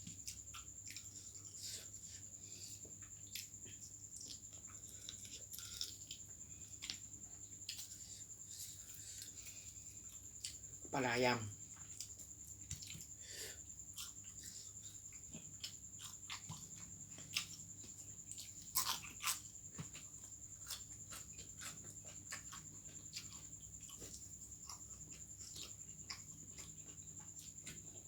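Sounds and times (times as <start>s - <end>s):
person chewing and crunching: 0.0s - 10.8s, 11.8s - 28.0s.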